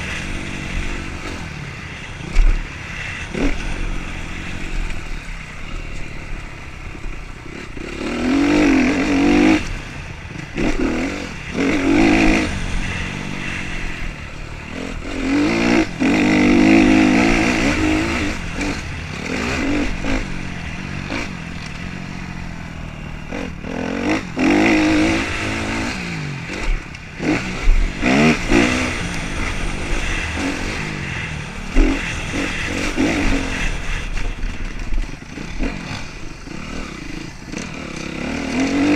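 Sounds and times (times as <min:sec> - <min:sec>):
motorcycle engines revving: 0:00.0 - 0:38.9
motorcycles passing close: 0:00.0 - 0:38.9.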